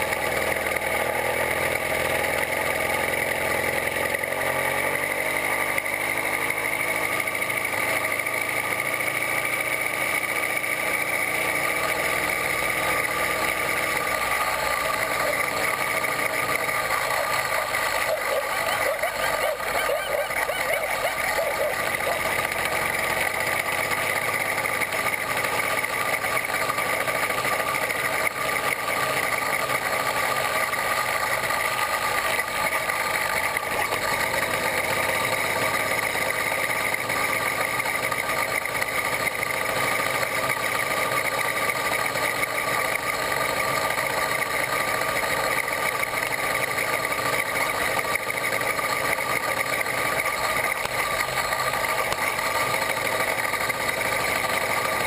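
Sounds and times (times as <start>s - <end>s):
two-stroke bicycle engine running: 0.0s - 55.0s.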